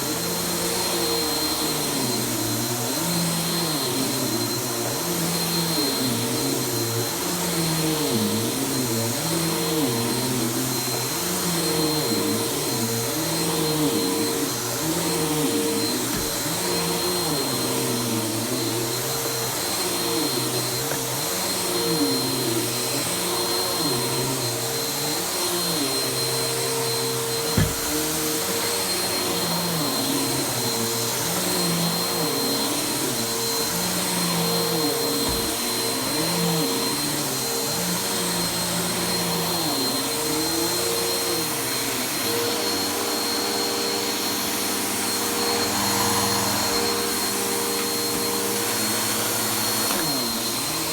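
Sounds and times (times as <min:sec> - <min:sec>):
vacuum cleaner running over carpet: 0:00.0 - 0:50.9.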